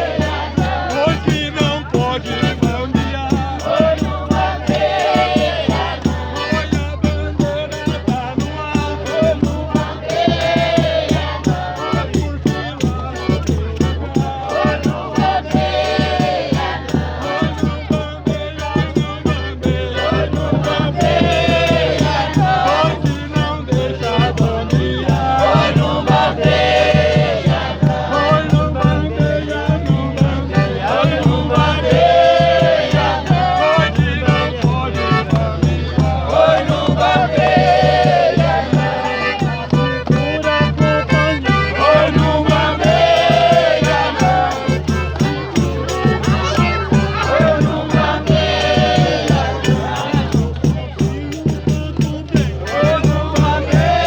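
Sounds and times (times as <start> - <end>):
fast shaken rattle beat: 0.0 - 54.0
voices singing folk music: 0.0 - 54.0.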